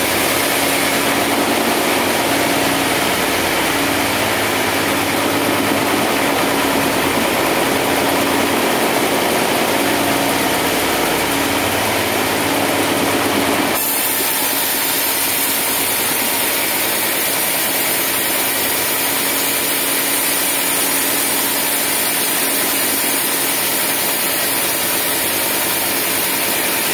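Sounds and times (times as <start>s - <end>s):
band saw machinery running: 0.0s - 26.9s.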